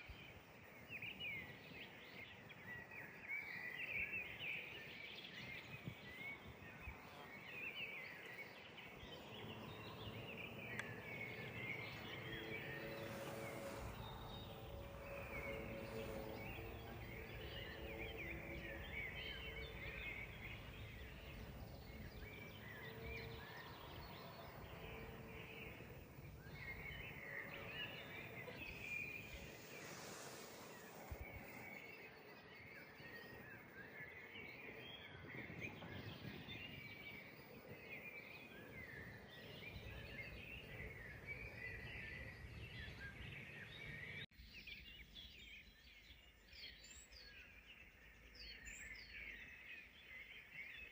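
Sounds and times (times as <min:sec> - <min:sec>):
faint low drone: 0:00.0 - 0:44.3
songbirds chirping: 0:00.0 - 0:50.9.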